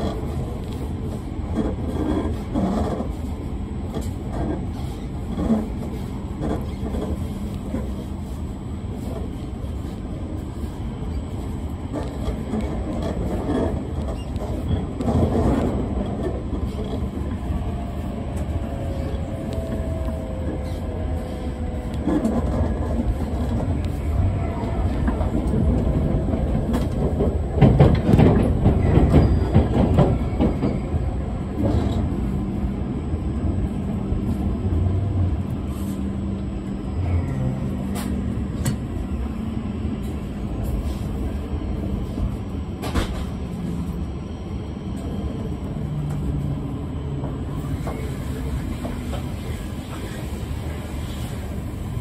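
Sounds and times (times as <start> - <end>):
train running rumble: 0.0 - 52.0.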